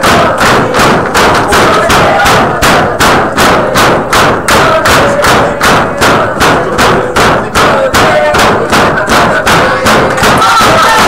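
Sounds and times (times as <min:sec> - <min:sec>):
rhythmic pounding: 0:00.0 - 0:11.0.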